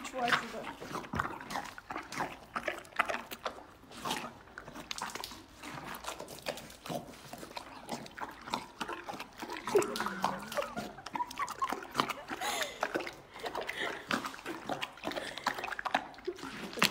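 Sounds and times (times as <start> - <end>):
horse crunching watermelon: 0.0 - 16.9.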